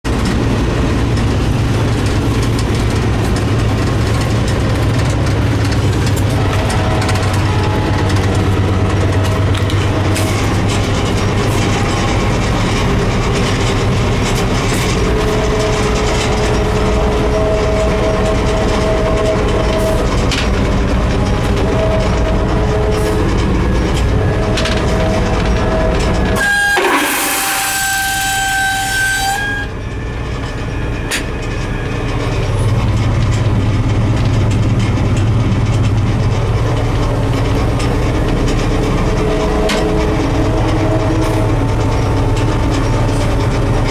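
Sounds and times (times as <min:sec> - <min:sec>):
diesel locomotive drone: 0:00.0 - 0:43.9.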